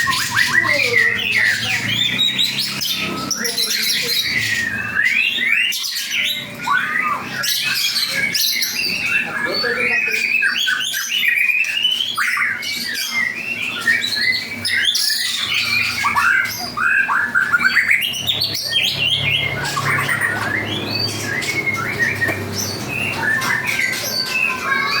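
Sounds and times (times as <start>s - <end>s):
bird chattering calls: 0.0s - 25.0s
bird singing whistled notes: 0.0s - 25.0s.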